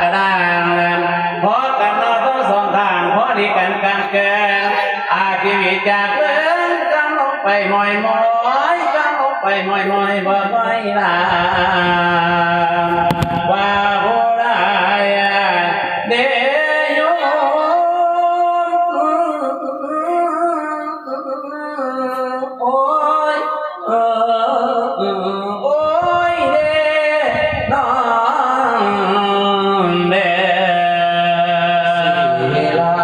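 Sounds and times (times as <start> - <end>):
person chanting melodically: 0.0 - 33.0.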